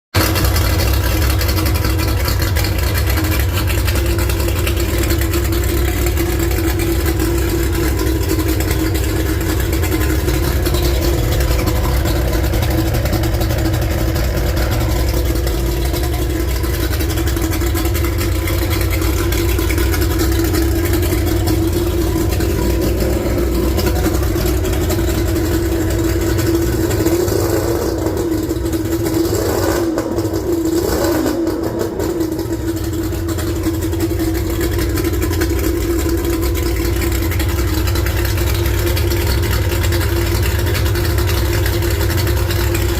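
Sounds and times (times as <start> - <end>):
outboard motor running: 0.1 - 42.9.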